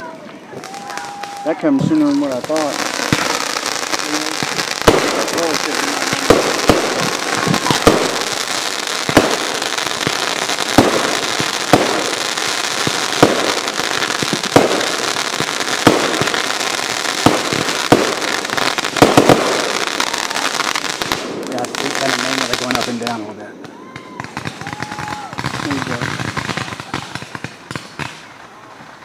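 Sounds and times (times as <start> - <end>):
continuous hiss: 0.0 - 29.0
fireworks bursting with sharp bangs: 0.0 - 29.0.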